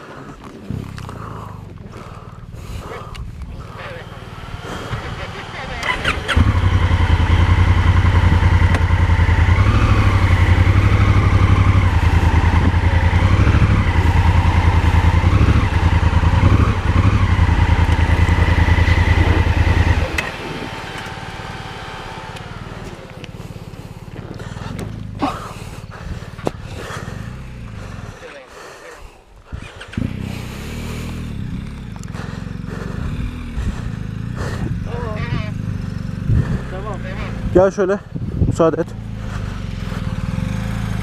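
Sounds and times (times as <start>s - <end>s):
motorcycle engine revving: 0.6s - 28.6s, 29.4s - 41.0s.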